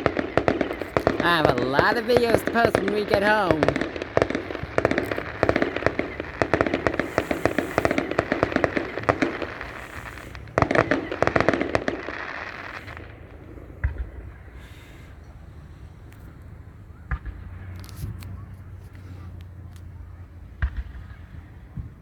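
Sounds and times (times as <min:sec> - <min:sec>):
loud firework burst: 0:00.0 - 0:19.3
fireworks crackling: 0:00.0 - 0:22.0.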